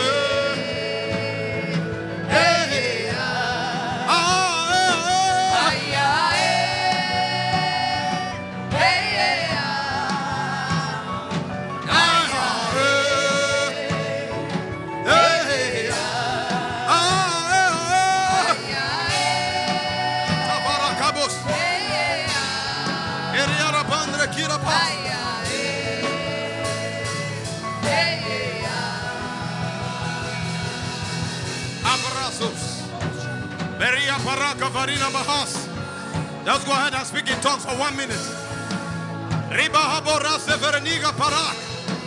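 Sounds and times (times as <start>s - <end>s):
instrumental backing music: 0.0s - 42.0s.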